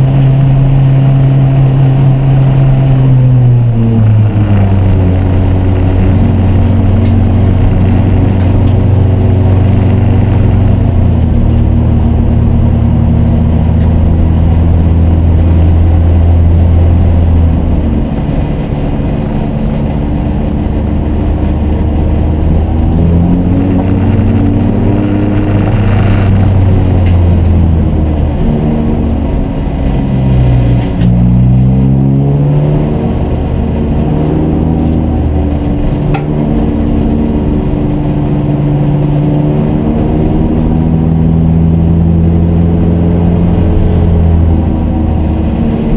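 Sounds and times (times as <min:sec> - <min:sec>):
race car engine revving: 0:00.0 - 0:45.9.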